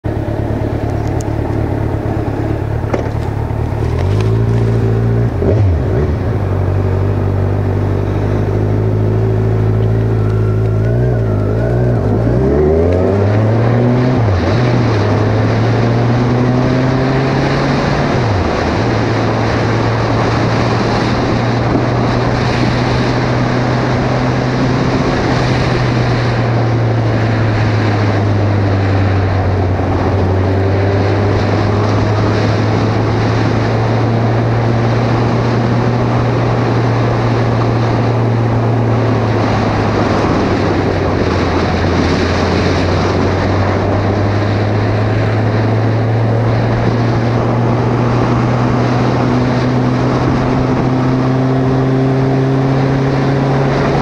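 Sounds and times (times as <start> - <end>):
motorcycle engine accelerating: 0.0 - 54.0
wind rushing on microphone: 0.1 - 54.0.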